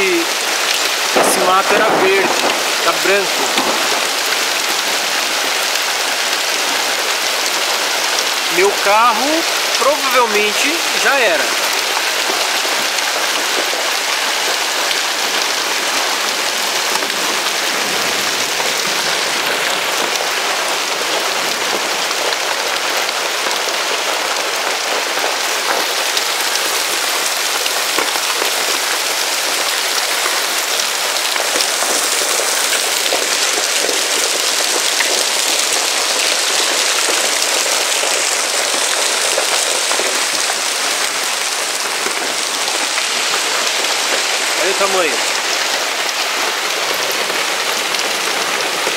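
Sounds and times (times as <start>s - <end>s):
hail clattering on surfaces: 0.0s - 48.9s
rain falling: 0.0s - 48.9s.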